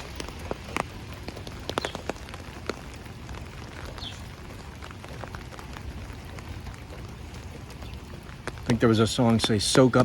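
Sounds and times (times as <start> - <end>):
raindrops ticking close by: 0.0 - 10.0
steady rain falling: 0.0 - 10.0.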